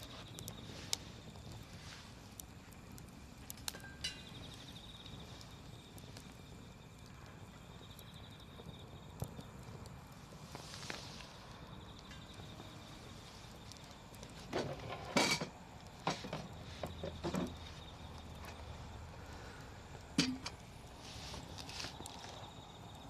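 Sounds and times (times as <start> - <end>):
campfire crackling: 0.0 - 23.0
fire popping and snapping: 0.0 - 23.0.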